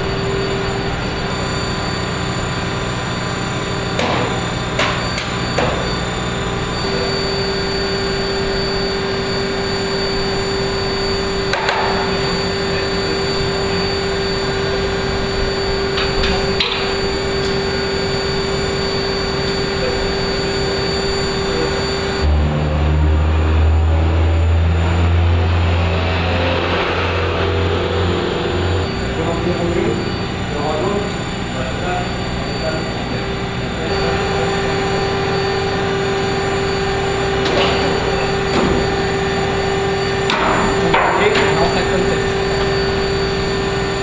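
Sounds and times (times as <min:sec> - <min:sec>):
machinery hum with whine: 0:00.0 - 0:44.0.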